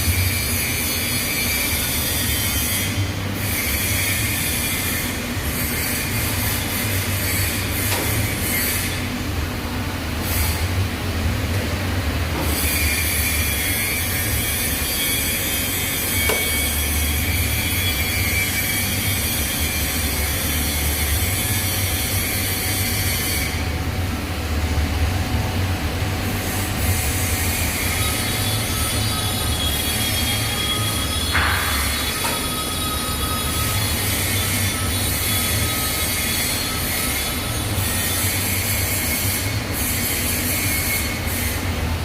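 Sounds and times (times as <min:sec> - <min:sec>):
constant low hum: 0:00.0 - 0:42.0.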